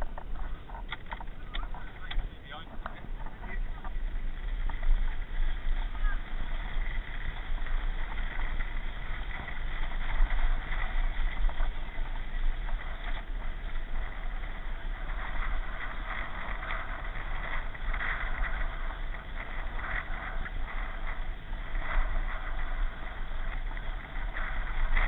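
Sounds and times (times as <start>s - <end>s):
rushing noise with low rumble: 0.0s - 25.0s.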